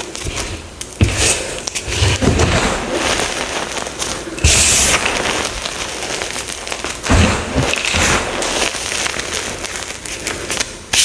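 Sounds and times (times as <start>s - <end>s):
chalk blocks crunching: 0.0s - 11.0s.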